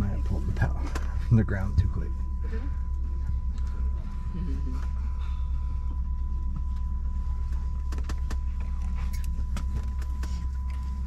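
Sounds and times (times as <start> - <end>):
airliner cabin drone: 0.0 - 11.0
thin constant whine: 0.0 - 11.0.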